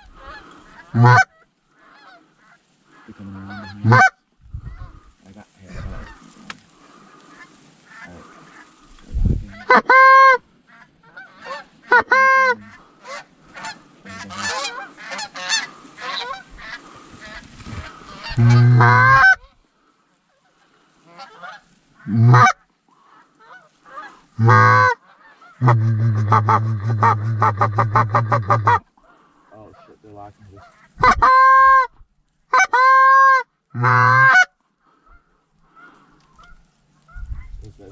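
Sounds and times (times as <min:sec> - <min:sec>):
goose honking: 0:00.0 - 0:19.6, 0:20.4 - 0:37.3.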